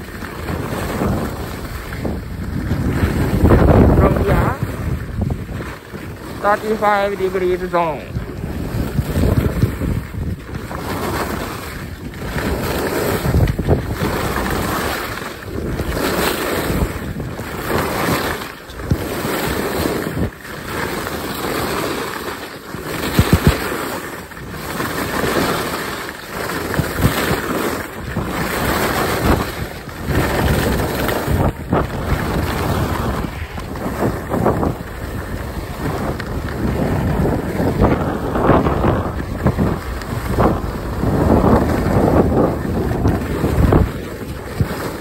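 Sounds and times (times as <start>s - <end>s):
skis knocking on bumps: 0.0s - 4.0s, 4.7s - 45.0s
skis scraping on packed snow: 0.0s - 45.0s
wind rushing over microphone: 0.0s - 45.0s.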